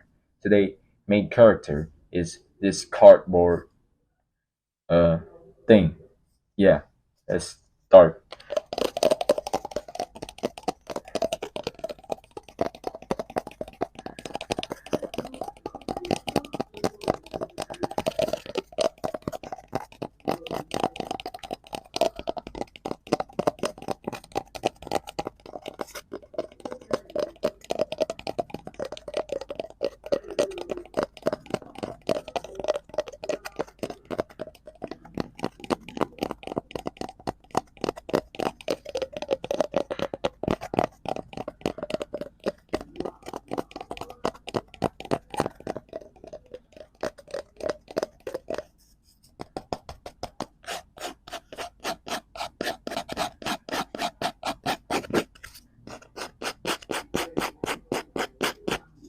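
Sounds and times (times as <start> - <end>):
tapping on cardboard: 8.3 - 58.8.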